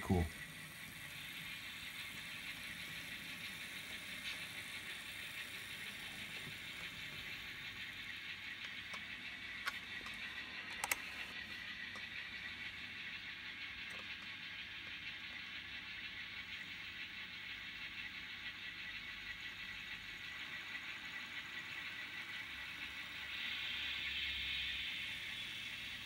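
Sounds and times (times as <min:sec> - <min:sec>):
model train motor whir: 0:00.0 - 0:26.0
wheels clicking on rails: 0:00.0 - 0:26.0.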